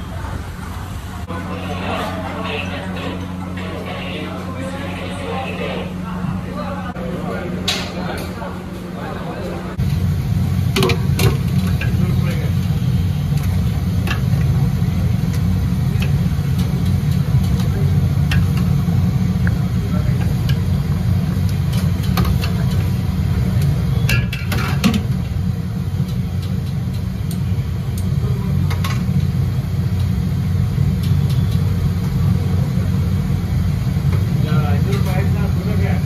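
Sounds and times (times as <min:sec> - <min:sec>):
gas burner roaring: 0:00.0 - 0:36.0.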